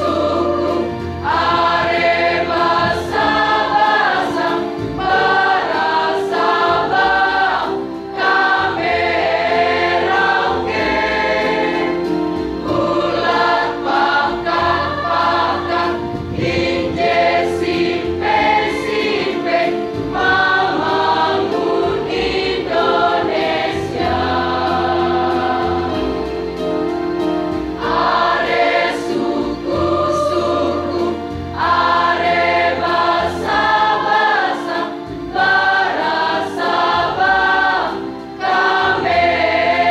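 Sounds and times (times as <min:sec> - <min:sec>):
choir singing: 0:00.0 - 0:26.6, 0:27.6 - 0:39.9.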